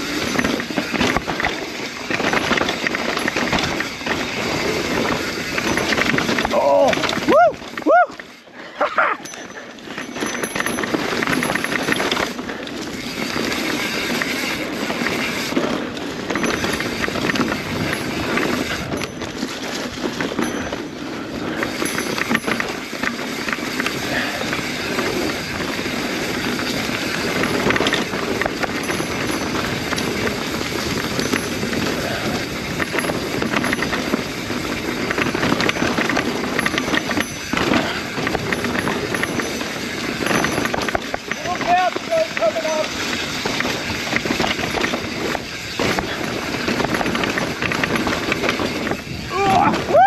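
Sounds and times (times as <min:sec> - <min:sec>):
bike clattering over rocks: 0:00.0 - 0:08.4, 0:09.2 - 0:50.0.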